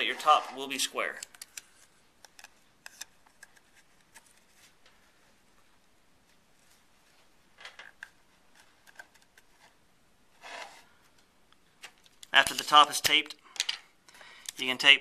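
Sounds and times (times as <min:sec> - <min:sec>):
faint rustling of tape: 0:00.0 - 0:12.9.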